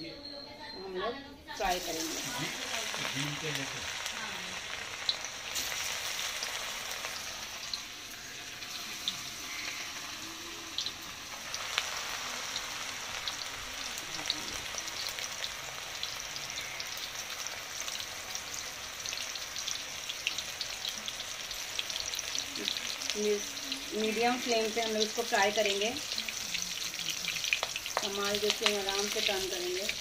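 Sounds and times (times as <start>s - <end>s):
oil sizzling with pops: 1.6s - 30.0s.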